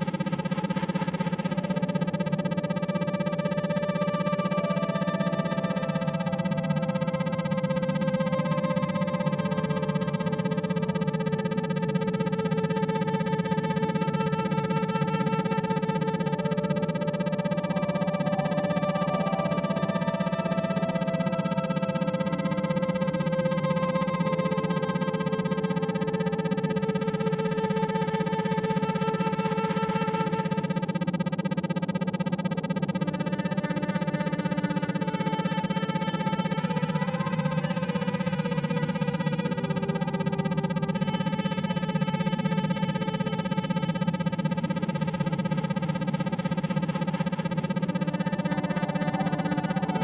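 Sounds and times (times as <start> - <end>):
low hum: 0.0 - 50.0
pulsing electronic tones: 0.0 - 50.0.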